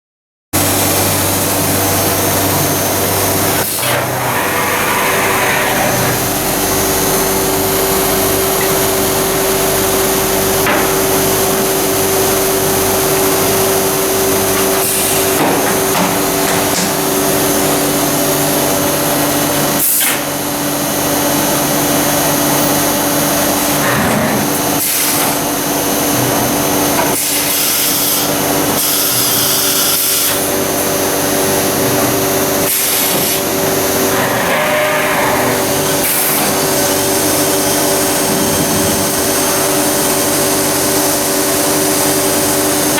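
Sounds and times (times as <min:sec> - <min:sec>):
woodworking machine humming: 0:00.6 - 0:42.9.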